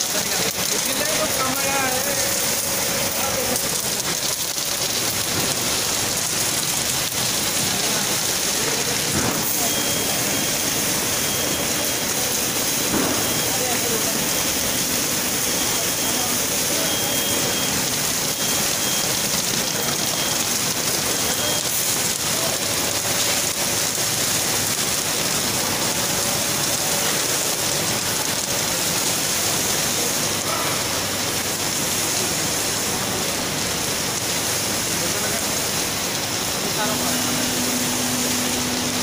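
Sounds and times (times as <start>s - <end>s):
machine hissing: 0.0s - 39.0s.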